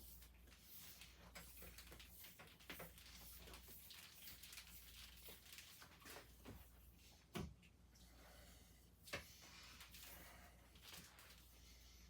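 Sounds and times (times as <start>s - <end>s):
faint rustling and handling: 0.0s - 7.3s, 9.1s - 12.0s.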